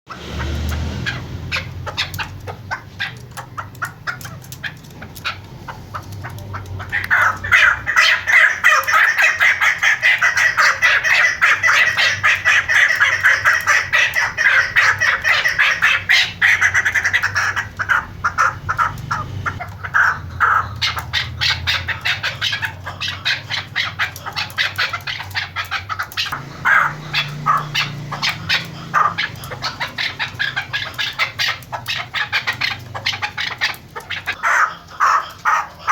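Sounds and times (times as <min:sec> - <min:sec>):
partridge calling: 0:00.2 - 0:35.9.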